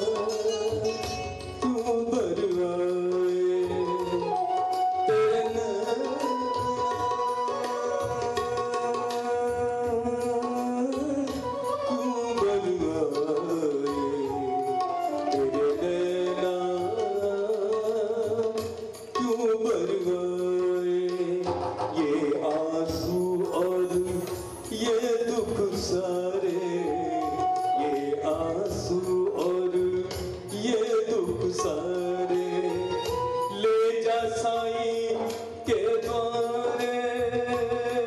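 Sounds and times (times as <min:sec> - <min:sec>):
person singing: 0:00.0 - 0:38.0
steady drum beat: 0:00.0 - 0:38.0.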